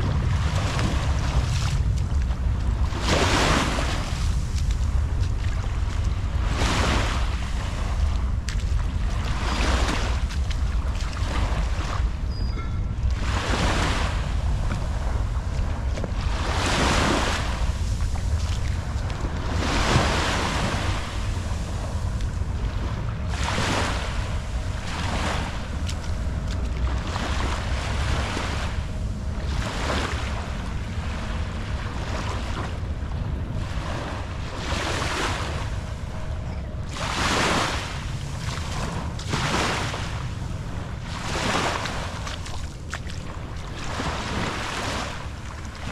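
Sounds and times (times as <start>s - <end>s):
small waves washing on shore: 0.0s - 45.9s
wind rumble on microphone: 0.0s - 45.9s.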